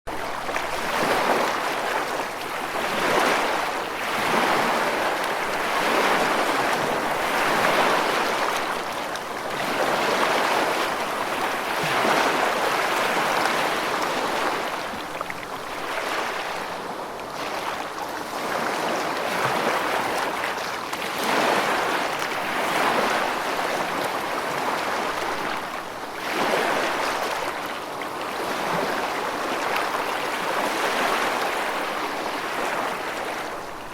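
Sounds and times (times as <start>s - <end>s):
ocean waves: 0.1s - 33.9s.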